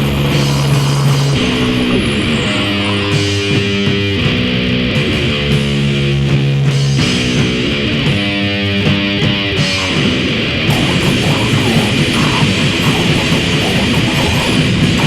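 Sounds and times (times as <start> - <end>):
distorted electric guitar riff: 0.0 - 15.0
harsh noise wash: 0.0 - 15.0.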